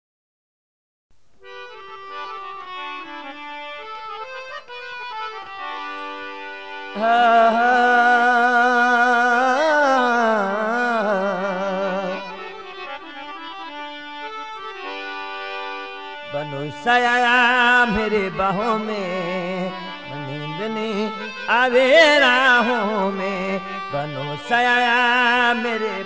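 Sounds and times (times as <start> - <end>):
held reed-keyboard notes: 1.4 - 26.0.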